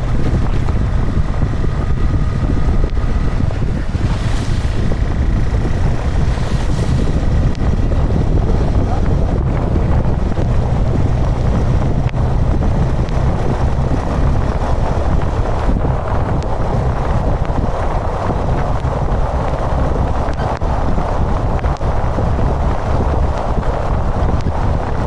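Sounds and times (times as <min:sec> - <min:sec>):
low rumble of motorcycle: 0:00.0 - 0:25.0
wind rush on microphone: 0:00.0 - 0:25.0.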